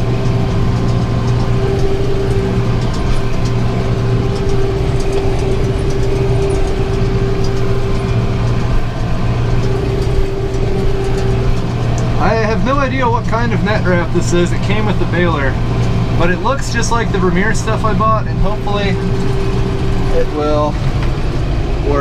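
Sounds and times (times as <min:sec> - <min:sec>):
baler driveline hum: 0:00.0 - 0:22.0
tractor engine drone: 0:00.0 - 0:22.0.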